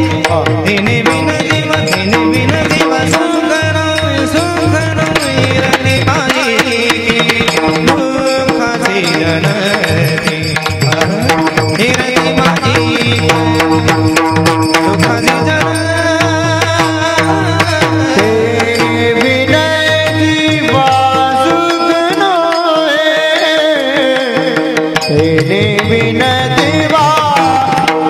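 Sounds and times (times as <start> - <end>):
drum beating: 0.0 - 28.0
hand cymbals struck: 0.0 - 28.0.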